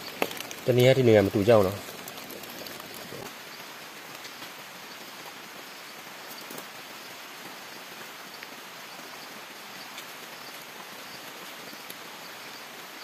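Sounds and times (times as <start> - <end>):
faint forest hiss: 0.0 - 13.0.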